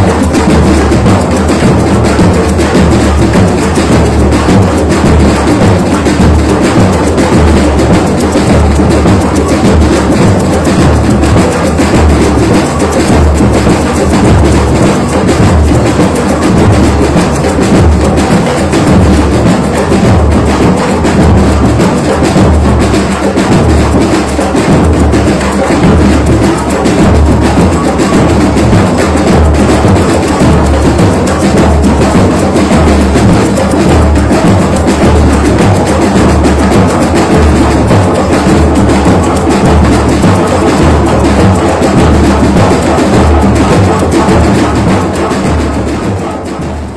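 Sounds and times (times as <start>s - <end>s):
deep bass drums: 0.0s - 45.8s
fast rattle of small drums: 0.0s - 46.8s.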